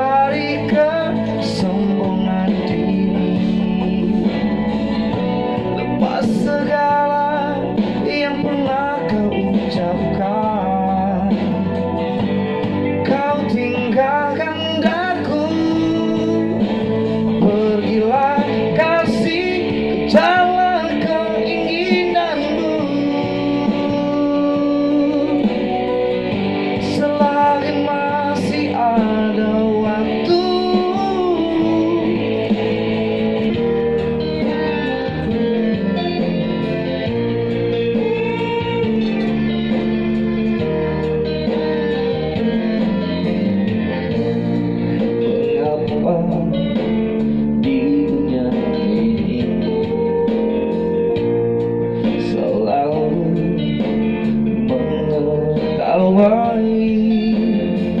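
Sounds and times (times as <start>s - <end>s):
guitar-like lead melody: 0.0s - 58.0s
sustained backing chords: 0.0s - 58.0s.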